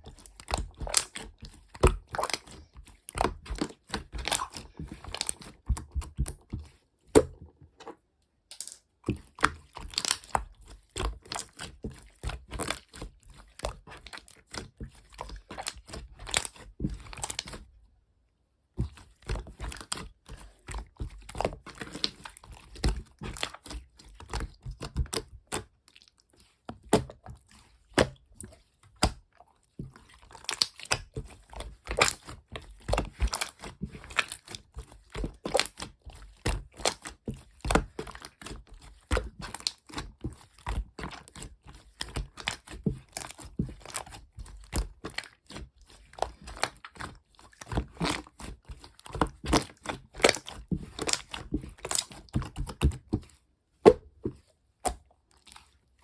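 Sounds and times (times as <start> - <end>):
small clicks taps and crinkles: 0.0 - 17.9, 18.8 - 53.5.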